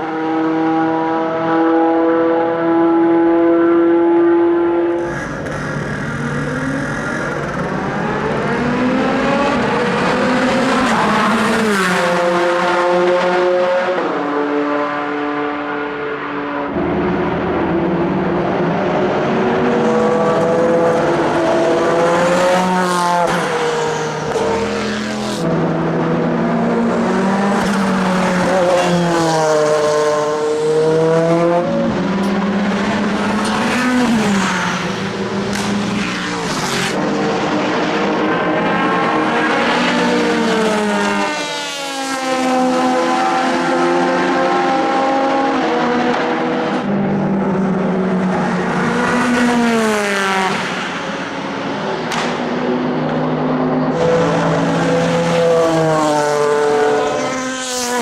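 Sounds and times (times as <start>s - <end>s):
racing engine revving through gears: 0.0s - 17.0s, 18.8s - 51.0s.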